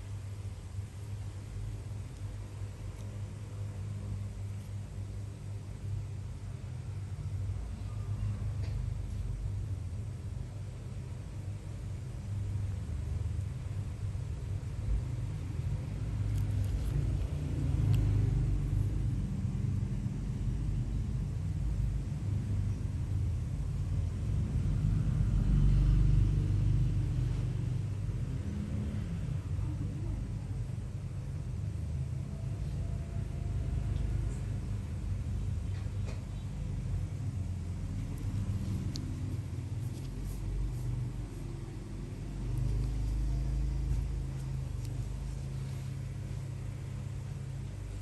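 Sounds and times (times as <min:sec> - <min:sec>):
low background rumble: 0:00.0 - 0:48.0.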